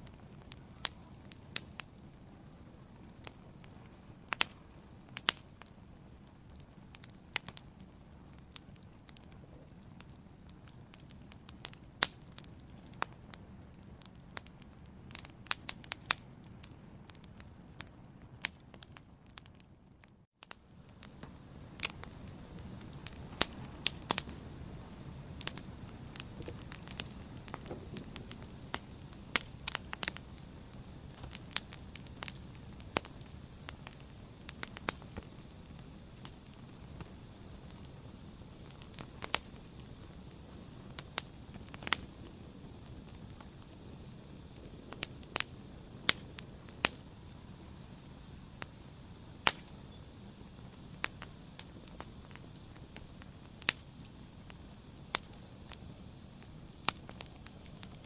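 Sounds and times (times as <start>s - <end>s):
low rush of flame: 0.0s - 58.0s
wood fire crackling and popping: 0.0s - 58.0s.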